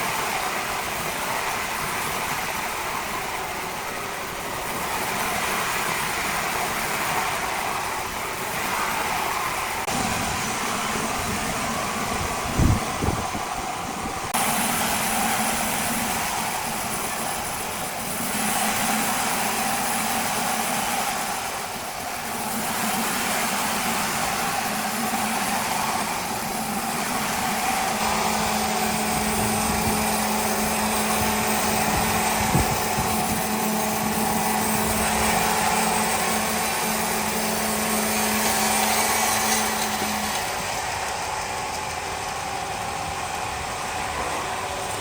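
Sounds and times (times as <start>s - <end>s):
heavy machinery running: 0.0s - 45.0s.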